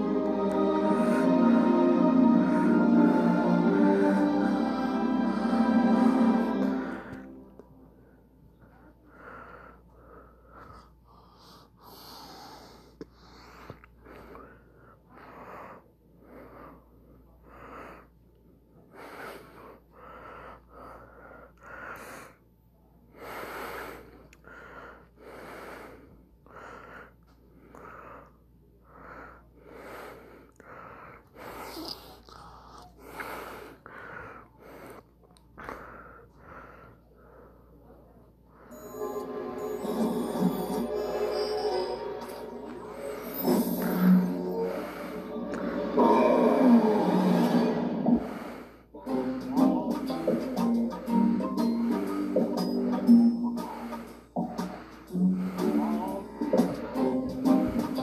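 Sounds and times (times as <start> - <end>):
person breathing: 0.0 - 49.8, 50.8 - 58.0.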